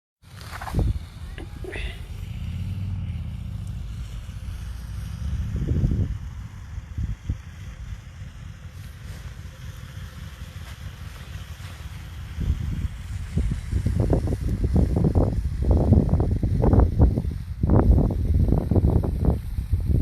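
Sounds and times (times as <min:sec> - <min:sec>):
wind buffeting microphone: 0:00.3 - 0:20.0.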